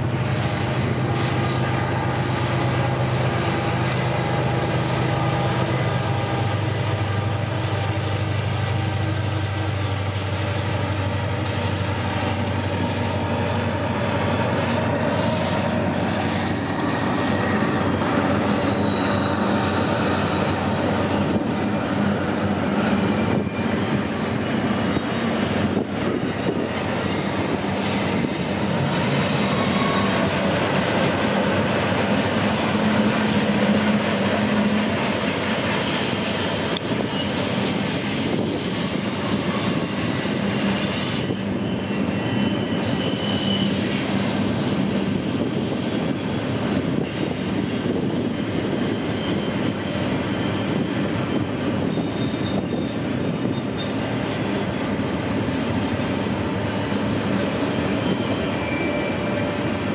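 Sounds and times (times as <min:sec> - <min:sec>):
train wheels rumbling on rails: 0:00.0 - 0:59.9
high wheel squeals: 0:01.2 - 0:59.9.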